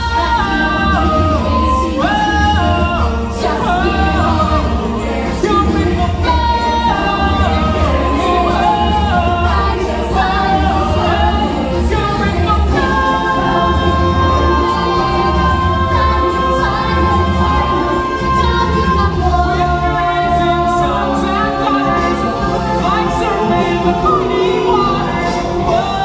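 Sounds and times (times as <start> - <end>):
voices singing together: 0.0 - 26.0.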